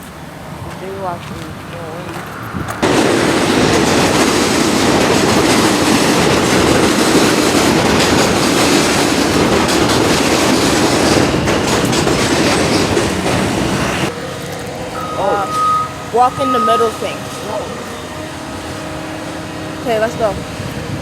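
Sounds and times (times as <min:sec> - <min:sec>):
wheels clacking over rail joints: 0:00.0 - 0:20.2
subway train rolling past: 0:00.0 - 0:21.0.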